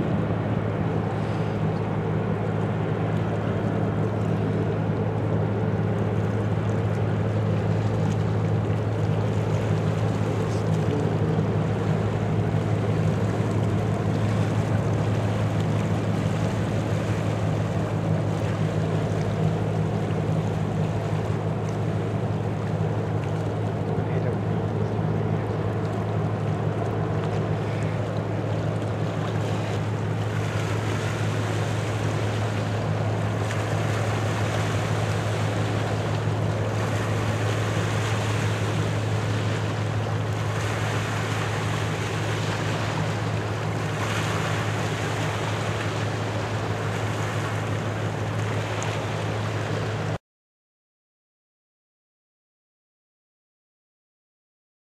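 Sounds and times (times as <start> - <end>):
ship engine drone: 0.0 - 50.2.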